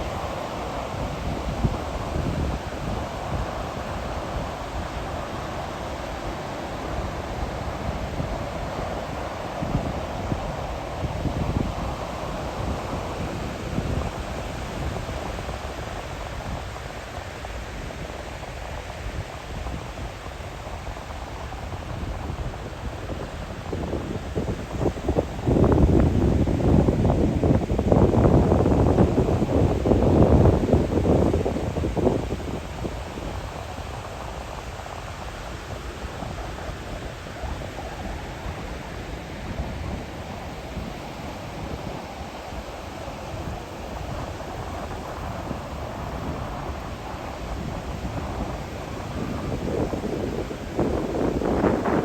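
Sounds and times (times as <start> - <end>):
ocean surf: 0.0 - 52.0
wind buffeting microphone: 0.0 - 52.0.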